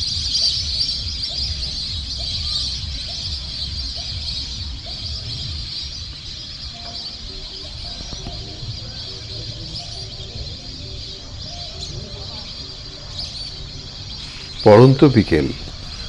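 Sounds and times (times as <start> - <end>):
many small birds chirping: 0.0 - 16.0.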